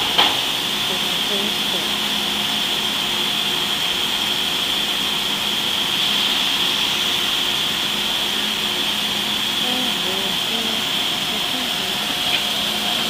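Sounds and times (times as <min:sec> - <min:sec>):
locomotive hissing: 0:00.0 - 0:13.0.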